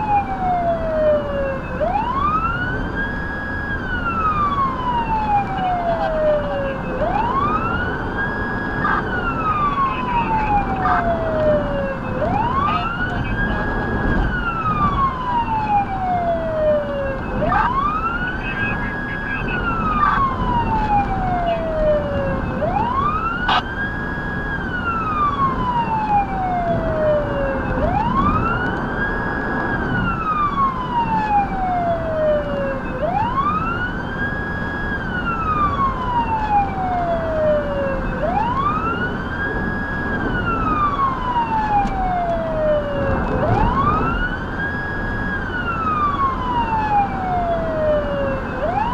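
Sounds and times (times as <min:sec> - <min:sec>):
electronic siren wailing: 0:00.0 - 0:48.9
road noise: 0:00.0 - 0:48.9.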